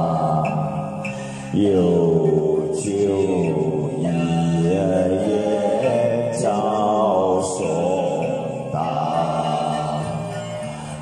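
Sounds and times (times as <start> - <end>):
man chanting unaccompanied: 0.0 - 10.4.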